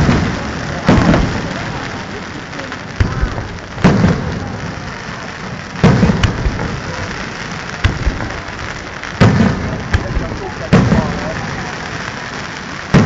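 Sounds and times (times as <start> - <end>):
firework crackle: 0.0 - 13.0
sharp firework bangs: 0.0 - 13.0.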